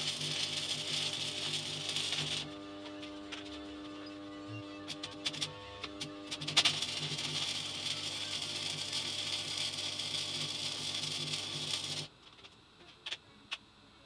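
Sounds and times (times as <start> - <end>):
welding arc striking clicks: 0.0 - 4.0, 4.8 - 13.6
welder low buzz: 0.0 - 12.1
welding arc crackling and hissing: 0.0 - 12.6.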